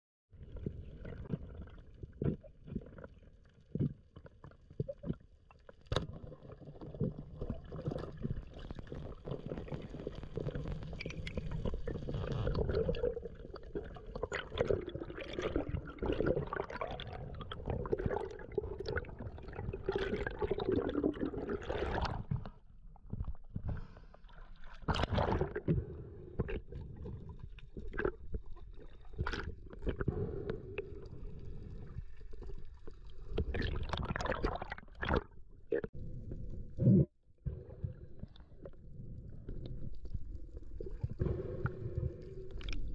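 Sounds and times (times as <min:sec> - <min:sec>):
water sloshing and gurgling: 0:00.4 - 0:42.9.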